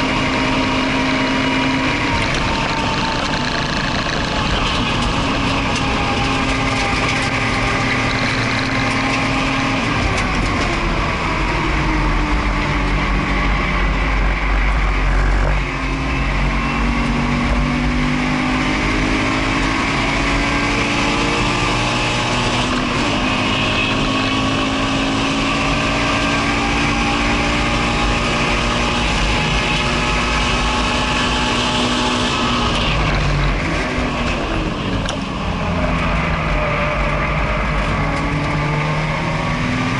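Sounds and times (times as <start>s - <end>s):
car engine accelerating: 0.0s - 39.9s
wind and tyre noise: 0.0s - 39.9s.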